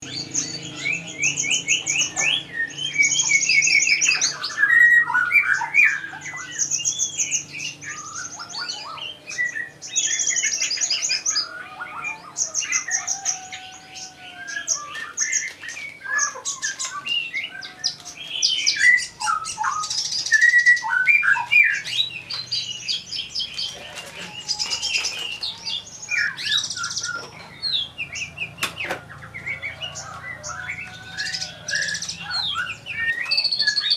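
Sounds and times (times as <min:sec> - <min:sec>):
bird singing buzzy trills: 0:00.0 - 0:33.9.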